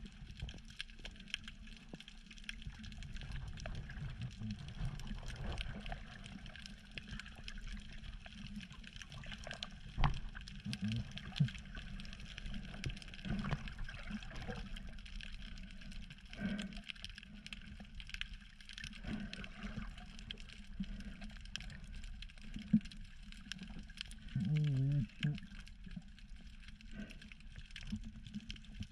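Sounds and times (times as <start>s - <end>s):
muffled underwater rumble: 0.0s - 28.9s.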